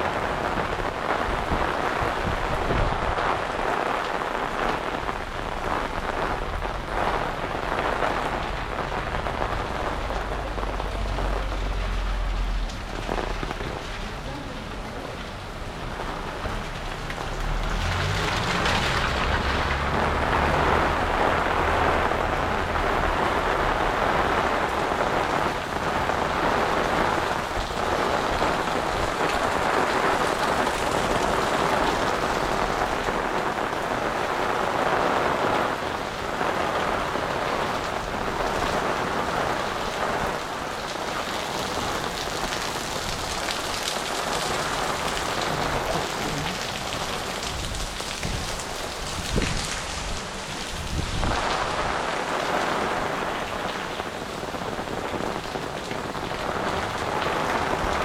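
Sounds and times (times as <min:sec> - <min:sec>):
heavy rain on hard surfaces: 0:00.0 - 0:58.0.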